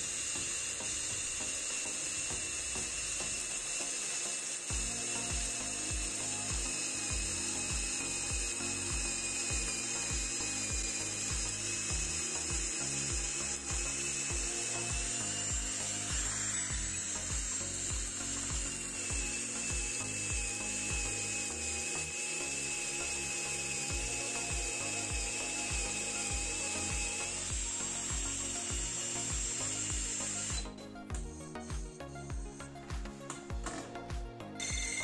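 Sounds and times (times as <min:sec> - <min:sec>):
steady high whine: 0:00.0 - 0:33.8
wood shaving clicking chatter: 0:00.0 - 0:34.0
background music low beat: 0:00.0 - 0:35.0.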